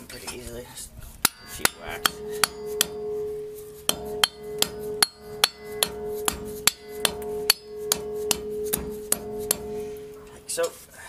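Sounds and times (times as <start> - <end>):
hammer tapping metal: 1.2 - 10.8
metallic ringing: 1.2 - 11.0.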